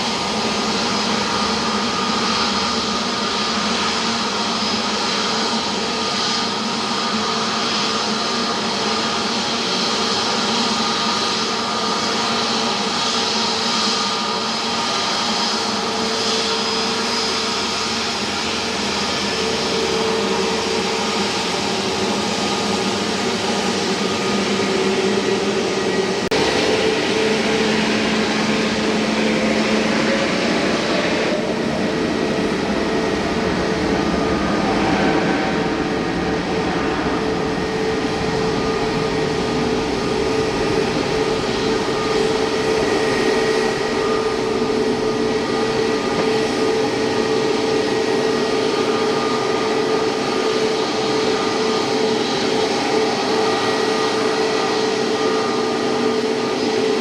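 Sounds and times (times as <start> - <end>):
jet engines running with whine: 0.0 - 57.0.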